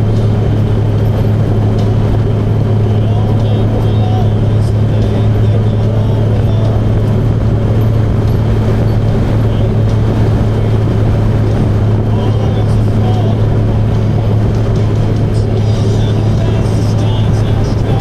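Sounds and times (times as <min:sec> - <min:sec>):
motorcycle engine drone: 0:00.0 - 0:18.0
road and wind noise: 0:00.0 - 0:18.0.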